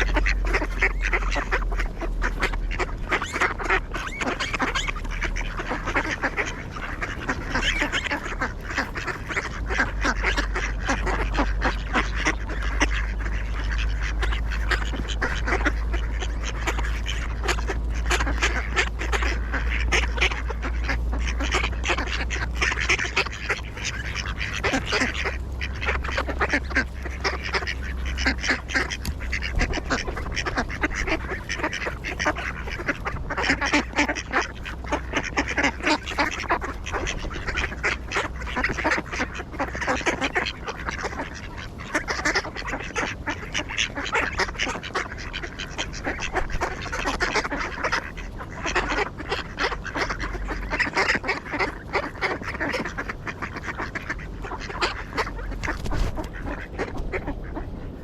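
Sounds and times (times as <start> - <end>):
ducks quacking: 0.0 - 58.0.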